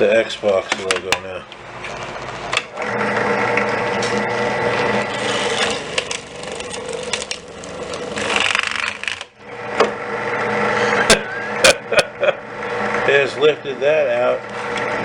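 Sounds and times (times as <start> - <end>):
drill grinding plastic: 0.0 - 15.0
drill press motor hum: 0.8 - 15.0.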